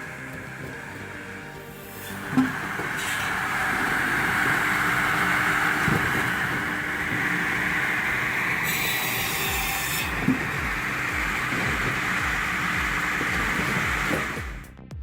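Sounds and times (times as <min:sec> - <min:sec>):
firewood processor running: 0:00.0 - 0:14.7
low hum: 0:00.0 - 0:15.0.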